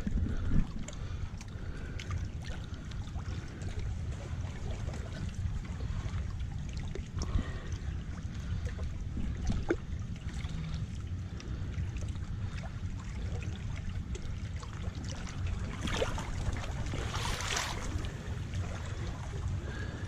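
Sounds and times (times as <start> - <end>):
low rumble: 0.0 - 20.0
river water lapping and trickling: 0.0 - 20.0.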